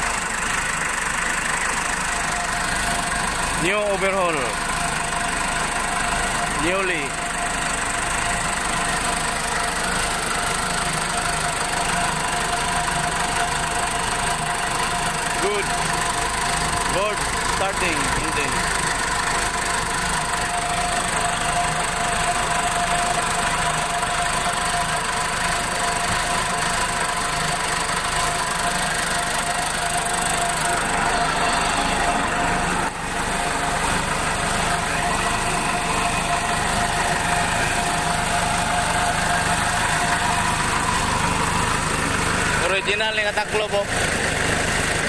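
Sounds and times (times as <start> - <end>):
backhoe engine running: 0.0 - 45.0.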